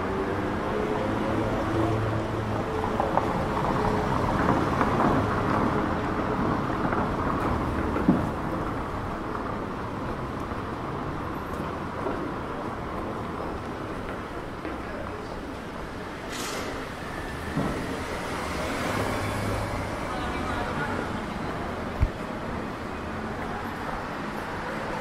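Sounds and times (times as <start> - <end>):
traffic and passers-by: 0.0 - 25.0.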